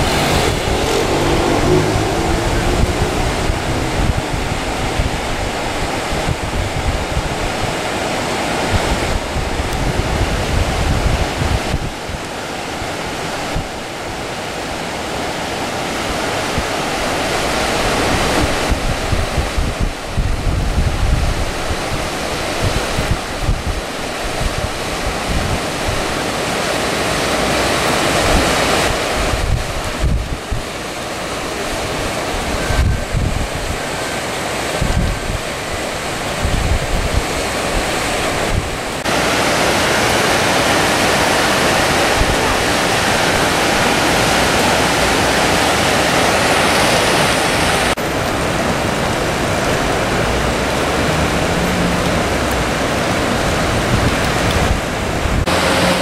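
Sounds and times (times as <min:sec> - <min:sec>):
rain falling: 0:00.0 - 0:56.0
wind buffeting microphone: 0:00.0 - 0:56.0.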